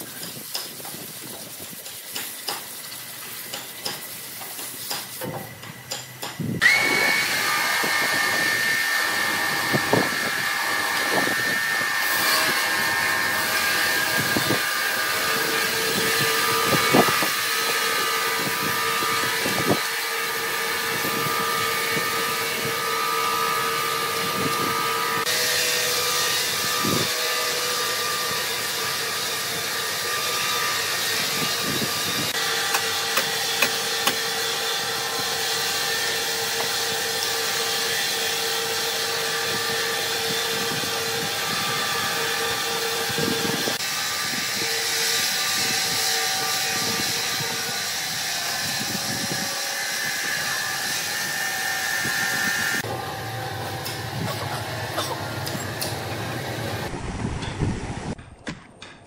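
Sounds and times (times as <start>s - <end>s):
band saw whine and hiss: 0.0s - 56.9s.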